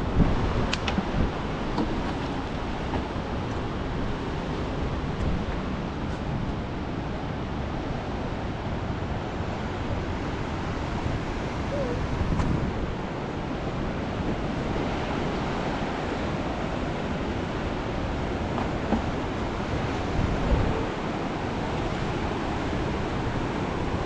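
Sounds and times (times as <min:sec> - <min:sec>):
river rushing: 0:00.0 - 0:24.0
wind noise on microphone: 0:00.0 - 0:24.0.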